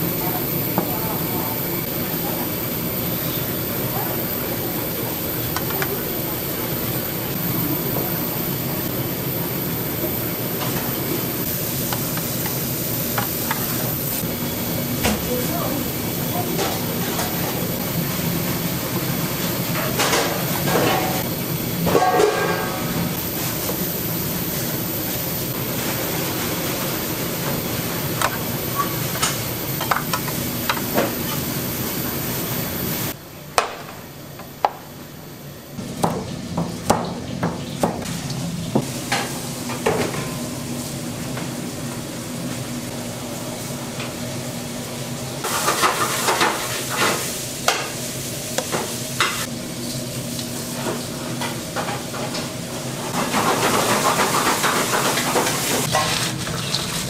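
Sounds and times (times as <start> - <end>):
kitchen hiss and hum: 0.0 - 57.0.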